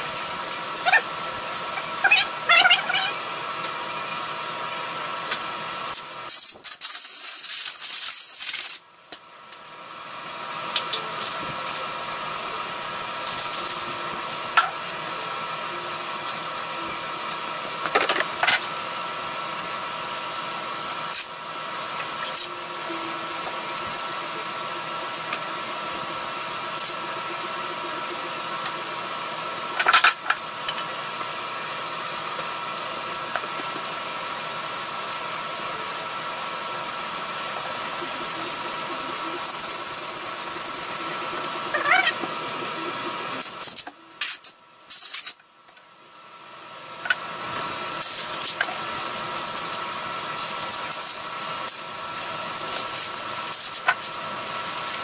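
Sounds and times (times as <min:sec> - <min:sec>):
steady hum: 0:00.0 - 0:55.0
pressurised spray hiss: 0:04.9 - 0:08.8, 0:10.5 - 0:29.8, 0:31.0 - 0:45.4, 0:47.3 - 0:55.0.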